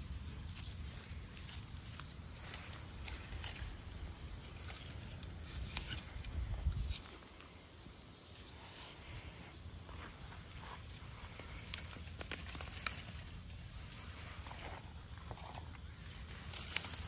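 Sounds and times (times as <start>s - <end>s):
garden fork crunching in soil: 0.0s - 7.4s, 9.9s - 17.0s
leaves rustling: 0.0s - 17.0s.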